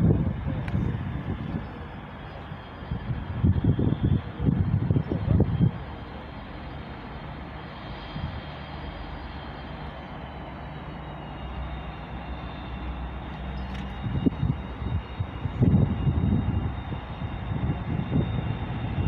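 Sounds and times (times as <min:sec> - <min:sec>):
engine-like rumble: 0:00.0 - 0:19.0
faint high whine: 0:00.0 - 0:19.0
low buffeting: 0:00.0 - 0:19.0.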